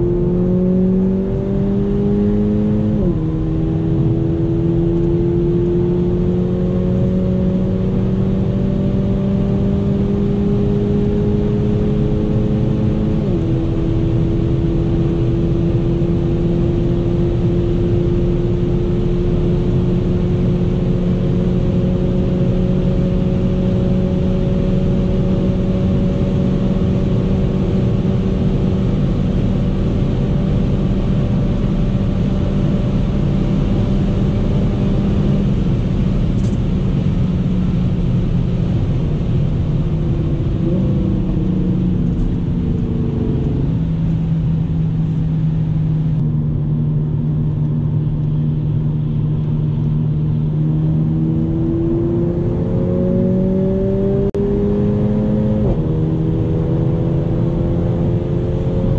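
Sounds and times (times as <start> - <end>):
car engine from inside cabin: 0.0 - 58.9
road noise: 0.0 - 58.9.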